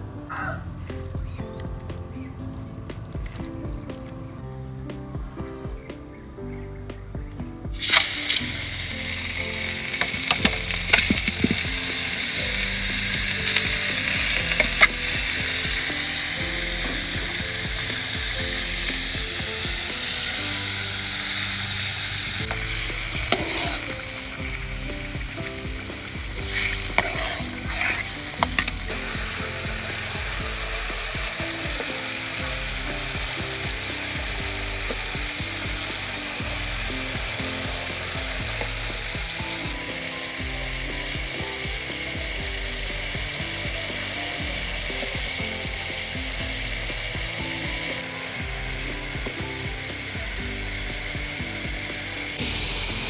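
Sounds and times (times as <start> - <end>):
meat sizzling in a wok: 7.8 - 53.0.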